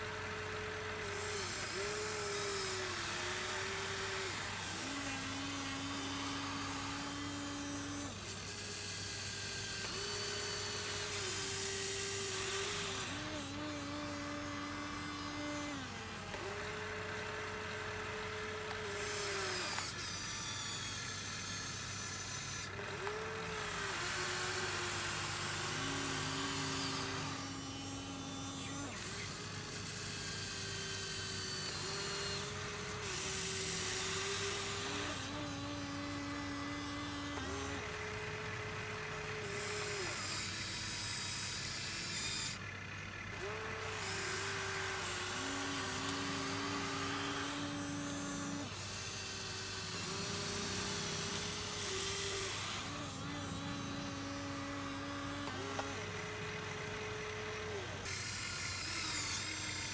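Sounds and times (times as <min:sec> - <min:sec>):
toy excavator motors whining: 0:00.0 - 0:59.9.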